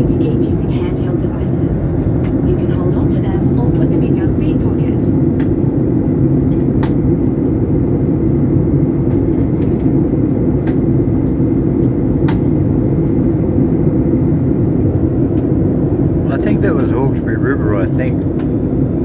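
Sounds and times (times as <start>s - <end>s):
jet engine roar in cabin: 0.0s - 19.0s.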